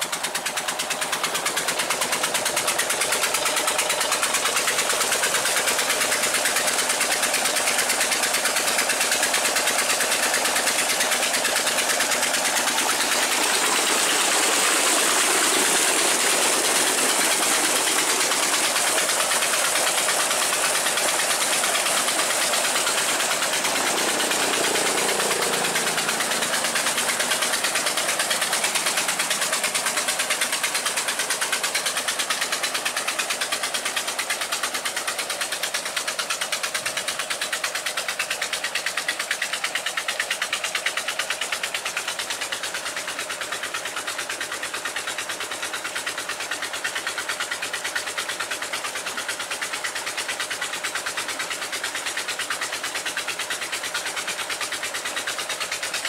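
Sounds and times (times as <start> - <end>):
diesel engine chugging: 0.0 - 56.0
water pouring into a tank: 0.0 - 56.0.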